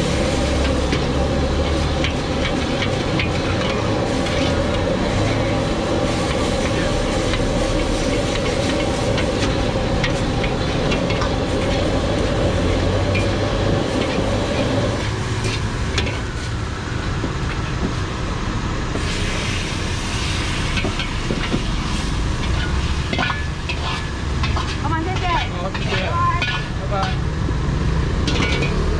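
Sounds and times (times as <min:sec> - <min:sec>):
ladle scraping a wok: 0:00.0 - 0:16.7, 0:18.9 - 0:27.3, 0:27.9 - 0:28.9
food sizzling: 0:00.0 - 0:28.9
gas burner roaring: 0:00.0 - 0:28.9.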